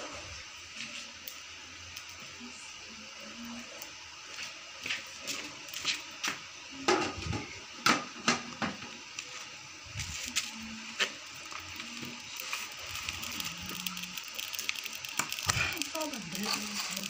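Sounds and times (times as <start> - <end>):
firewood crackling and popping: 0.3 - 17.0.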